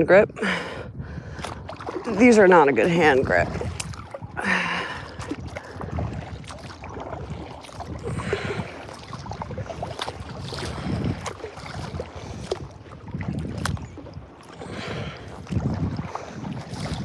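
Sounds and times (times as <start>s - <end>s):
water lapping against hull: 0.0s - 17.0s
wind buffeting microphone: 0.0s - 17.0s
paddle splashing in water: 0.4s - 17.0s.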